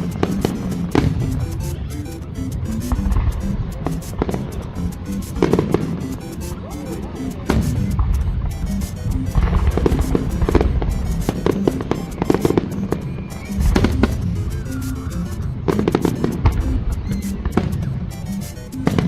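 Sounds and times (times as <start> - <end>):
fireworks bangs and crackles: 0.0 - 19.0
music: 0.0 - 19.0.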